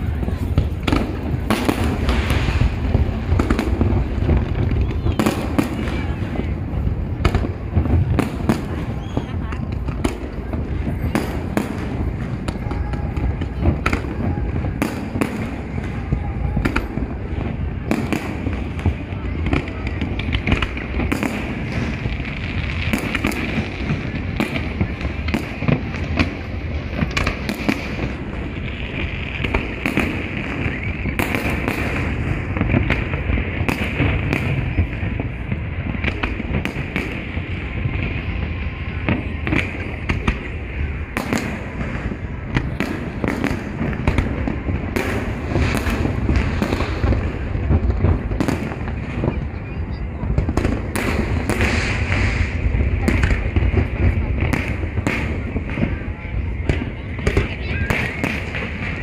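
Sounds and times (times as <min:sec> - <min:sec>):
crowd talking: 0:00.0 - 0:59.0
fireworks bangs and crackles: 0:00.0 - 0:59.0.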